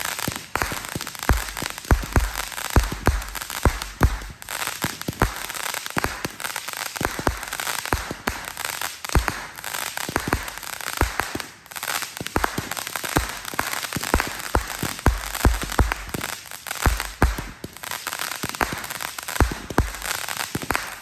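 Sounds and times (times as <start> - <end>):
fireworks bangs and pops: 0.0 - 21.0
fireworks crackling: 0.0 - 21.0.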